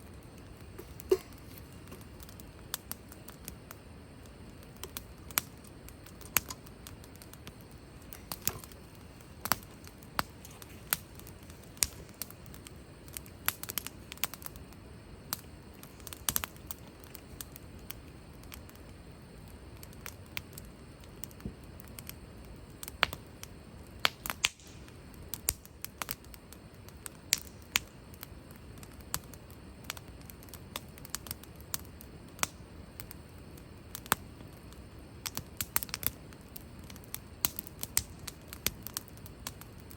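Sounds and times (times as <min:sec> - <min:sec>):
low background hiss: 0:00.0 - 0:39.9
sharp pops and snaps: 0:00.0 - 0:39.9
wood fire crackling: 0:00.0 - 0:39.9.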